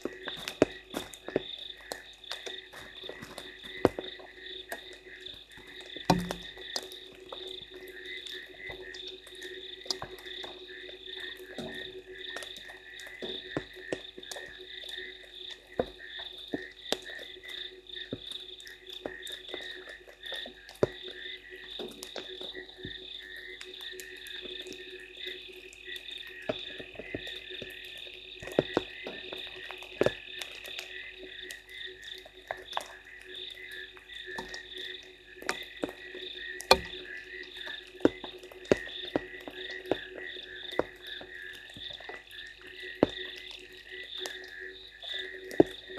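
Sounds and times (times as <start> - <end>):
frogs calling: 0.0 - 45.9
raindrops ticking: 0.0 - 45.9.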